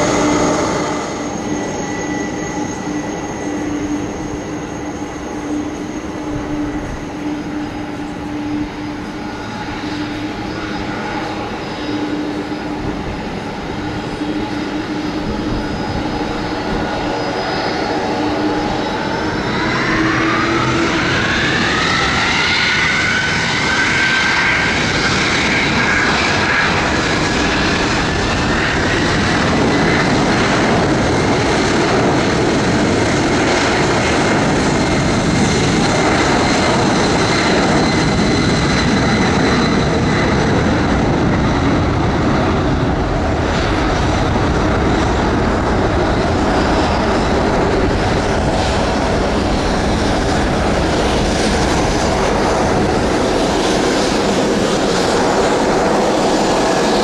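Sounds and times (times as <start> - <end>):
jet engines spooling up: 0.0 - 57.0
rising engine whine: 0.0 - 57.0.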